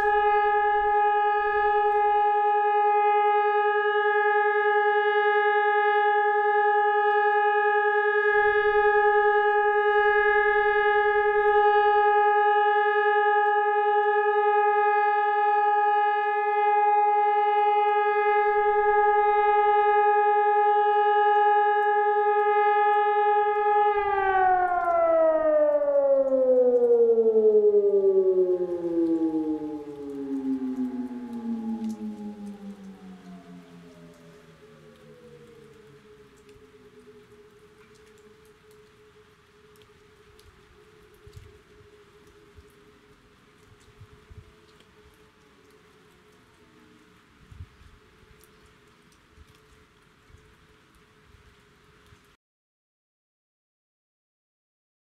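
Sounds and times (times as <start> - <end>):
civil defence siren steady tone: 0.0 - 52.2.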